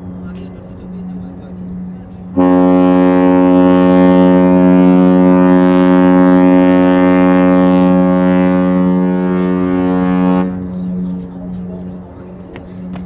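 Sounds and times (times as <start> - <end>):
ship horn long blast: 0.0 - 13.0.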